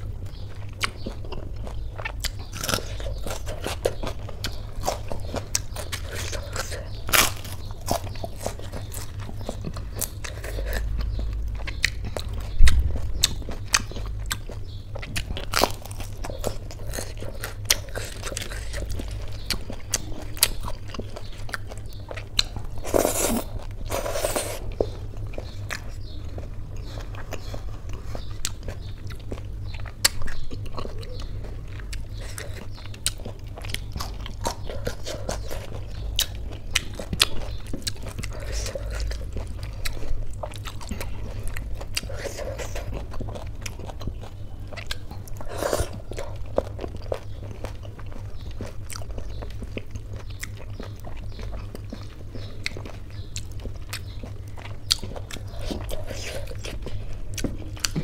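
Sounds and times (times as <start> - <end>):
crunchy fried food being chewed: 0.0 - 58.0
wet mouthfuls of soft food: 0.3 - 58.0.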